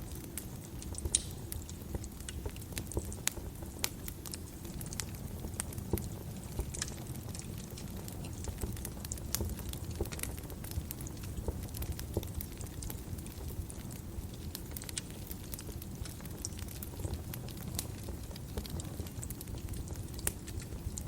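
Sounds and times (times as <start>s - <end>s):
low rumble of flames: 0.0s - 21.0s
wood fire crackling: 0.0s - 21.0s.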